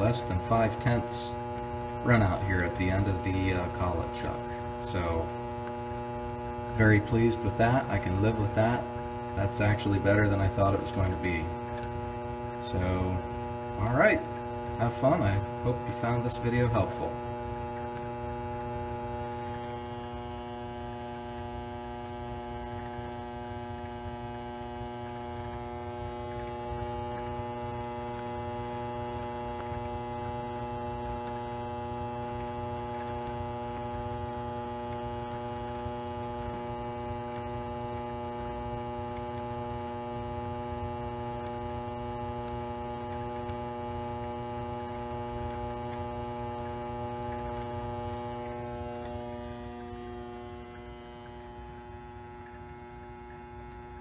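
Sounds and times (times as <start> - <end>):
lathe motor hum: 0.0 - 54.0.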